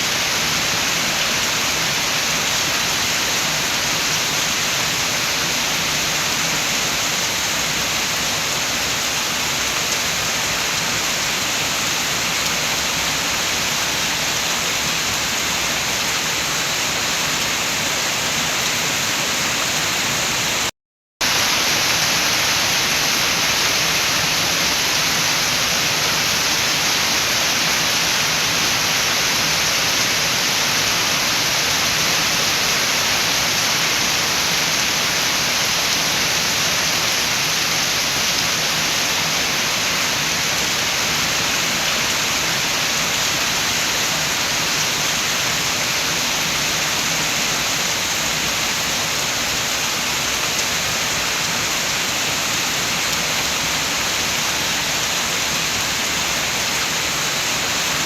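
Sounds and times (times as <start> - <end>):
heavy rain with wind: 0.0 - 58.0.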